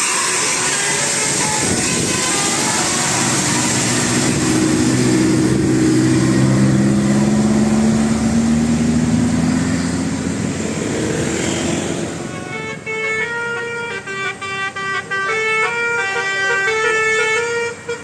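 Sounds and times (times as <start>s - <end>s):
bus engine droning: 0.0s - 18.0s
road and tyre noise: 0.0s - 18.0s.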